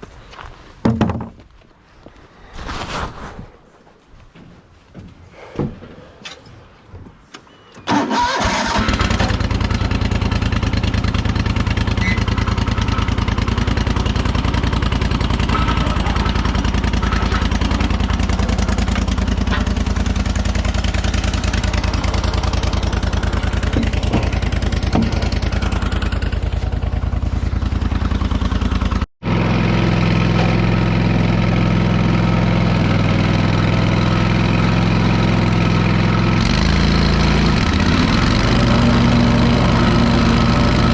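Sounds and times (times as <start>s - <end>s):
lawn mower engine starting and running: 7.9s - 40.9s.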